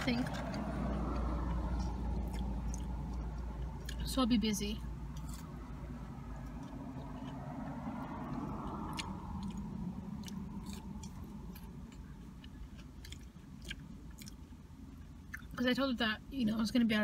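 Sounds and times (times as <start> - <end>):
steady low hum: 0.0 - 17.0
person chewing food: 0.4 - 4.1, 5.1 - 15.6.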